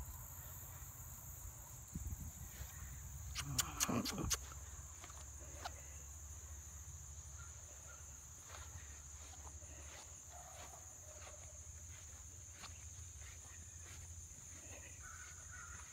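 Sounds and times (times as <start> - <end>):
insect chorus: 0.0 - 15.9
footsteps in grass: 1.7 - 5.9, 7.4 - 15.9.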